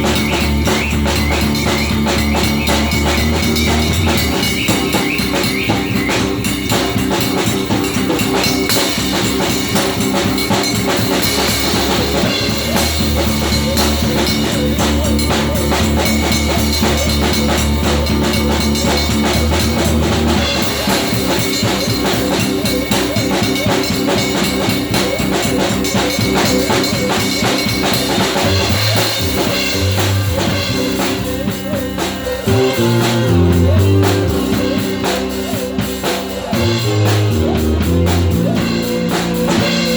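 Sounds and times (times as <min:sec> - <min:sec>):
rock music: 0:00.0 - 0:39.9.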